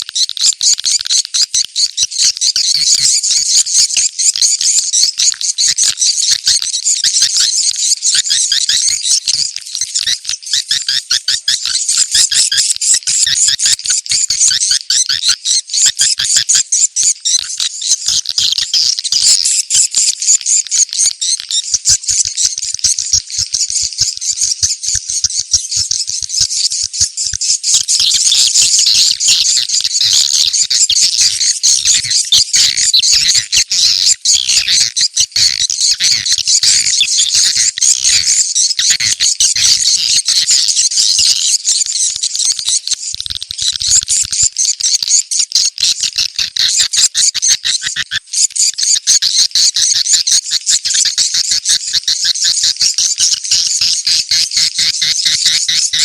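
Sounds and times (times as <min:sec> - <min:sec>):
swiftlets twittering chirps: 0:00.0 - 0:56.0.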